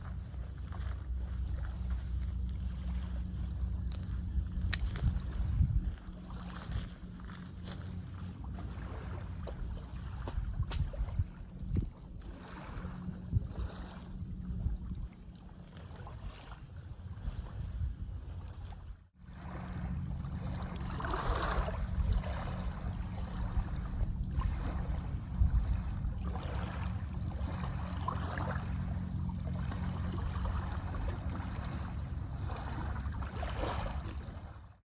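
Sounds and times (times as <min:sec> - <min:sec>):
wind buffeting microphone: 0:00.0 - 0:34.6
small waves lapping shore: 0:00.0 - 0:34.8.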